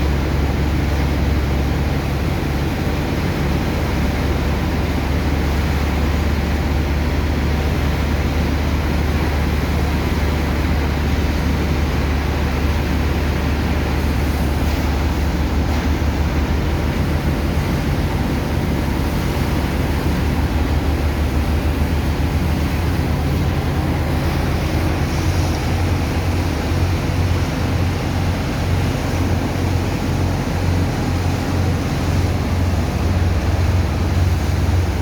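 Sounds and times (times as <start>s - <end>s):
pump engine low drone: 0.0s - 35.0s
rush of pumped water and sand: 0.0s - 35.0s.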